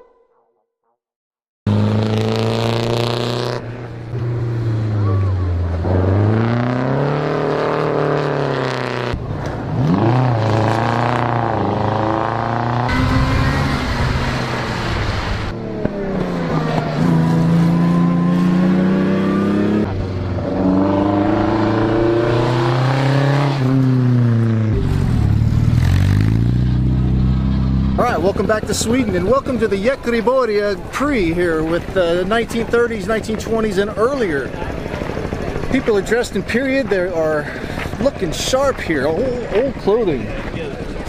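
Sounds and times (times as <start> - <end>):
race car engines revving: 1.7 - 41.0.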